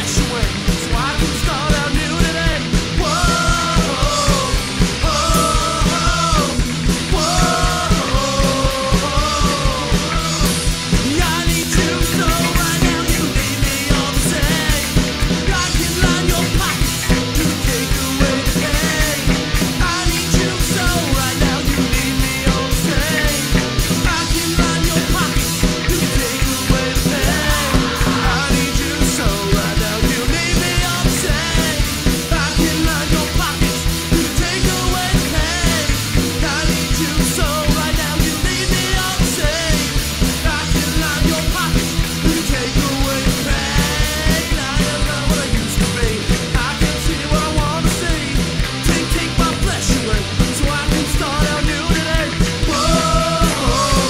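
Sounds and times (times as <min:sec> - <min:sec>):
person singing: 0:00.0 - 0:54.0
punk rock band playing: 0:00.0 - 0:54.0.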